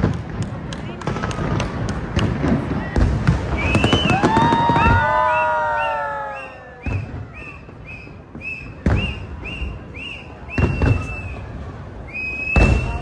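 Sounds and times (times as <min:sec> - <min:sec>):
fireworks booming: 0:00.0 - 0:13.0.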